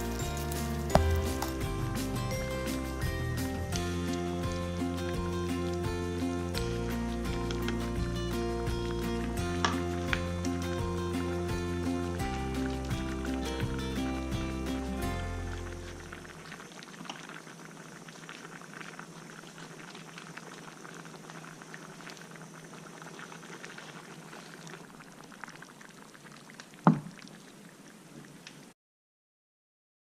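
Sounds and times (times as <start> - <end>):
porridge bubbling in a pot: 0.0 - 28.7.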